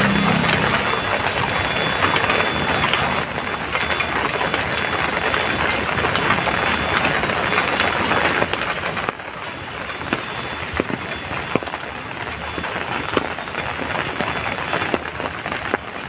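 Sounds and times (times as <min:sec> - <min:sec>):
raindrops pattering: 0:00.0 - 0:16.0.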